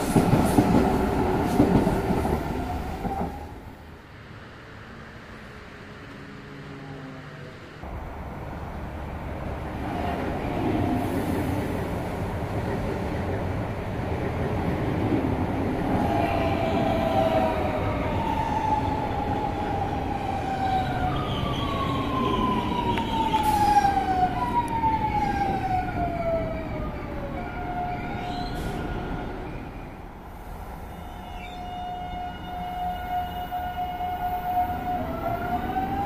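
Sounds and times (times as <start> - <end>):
train rumbling on track: 0.0 - 36.0.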